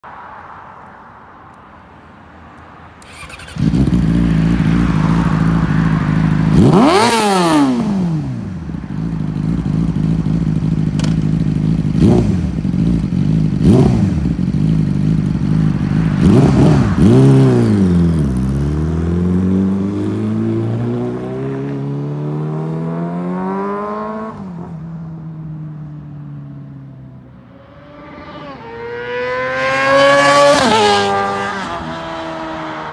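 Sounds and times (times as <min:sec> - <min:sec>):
motorcycle revving and accelerating: 0:03.0 - 0:25.0, 0:27.2 - 0:32.9
high-revving motorcycle passing by: 0:03.0 - 0:25.6, 0:26.3 - 0:32.9.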